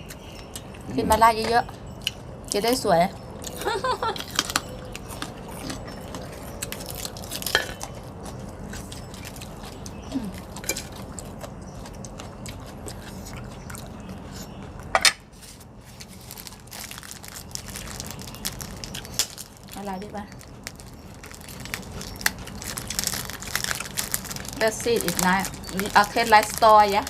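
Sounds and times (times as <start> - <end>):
chewing and biting: 3.4 - 27.0.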